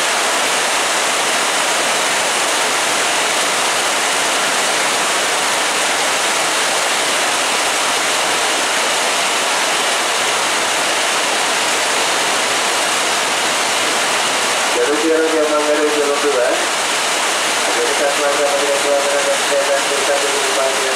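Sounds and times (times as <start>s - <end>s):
heavy rain pouring: 0.0s - 20.9s.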